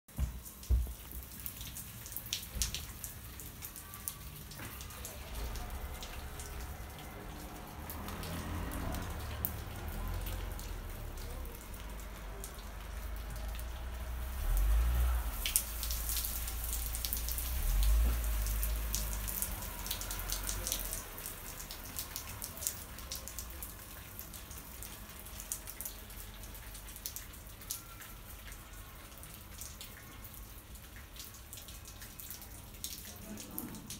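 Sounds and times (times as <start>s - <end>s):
water dripping and splashing: 0.1s - 33.9s.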